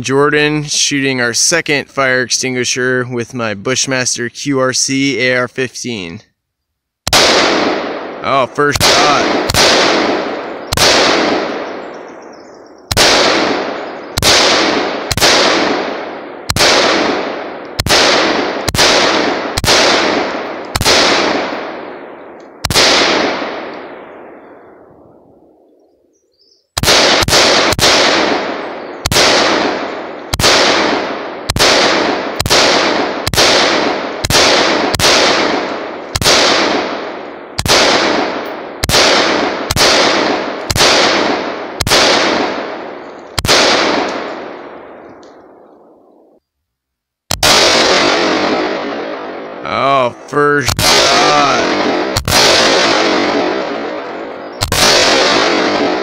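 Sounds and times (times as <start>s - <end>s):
rifle shots with echo: 7.0s - 25.8s, 26.8s - 46.5s, 47.3s - 56.0s.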